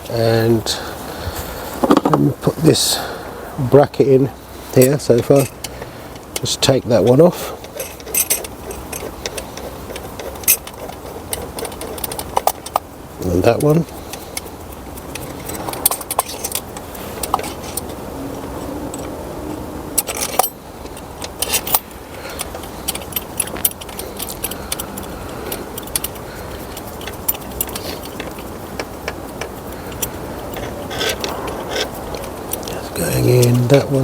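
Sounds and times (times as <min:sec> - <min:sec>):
metal tools clinking: 0:03.7 - 0:18.0, 0:20.0 - 0:34.0.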